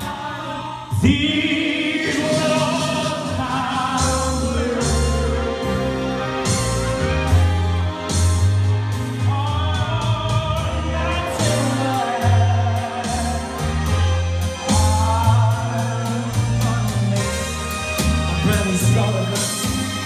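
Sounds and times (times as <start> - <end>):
person singing into a microphone: 0.0 - 6.6, 9.2 - 20.0
backing track with bass and drums: 0.9 - 20.0.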